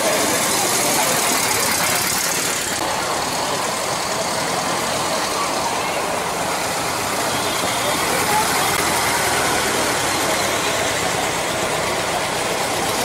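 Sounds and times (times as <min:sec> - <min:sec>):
air-cooled car engines running: 0:00.0 - 0:13.0.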